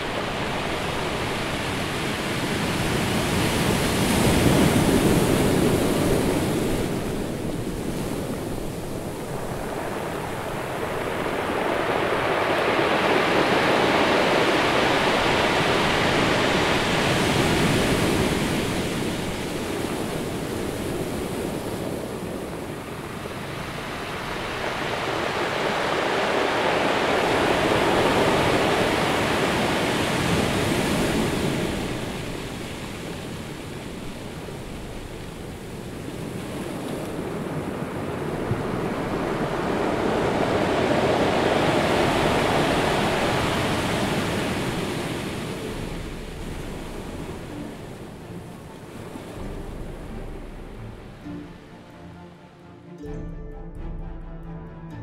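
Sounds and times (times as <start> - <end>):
ocean surf washing onto shore: 0.0 - 52.0.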